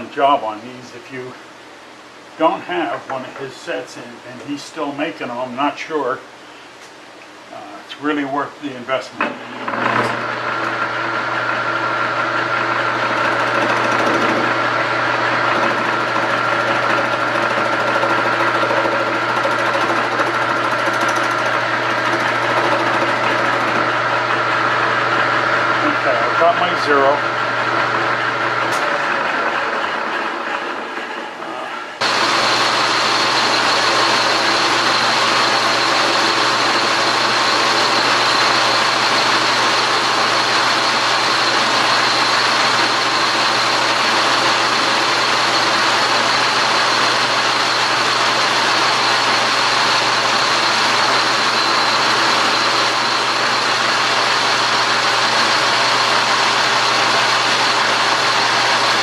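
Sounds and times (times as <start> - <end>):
metal lathe running: 9.2 - 59.0.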